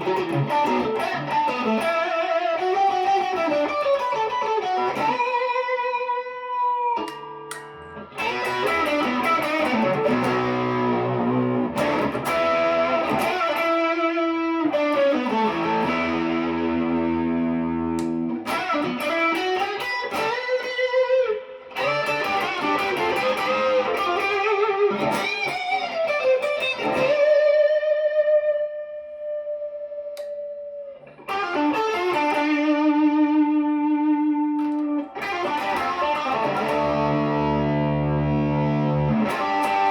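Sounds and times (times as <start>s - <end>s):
electric guitar through amp: 0.0s - 39.9s.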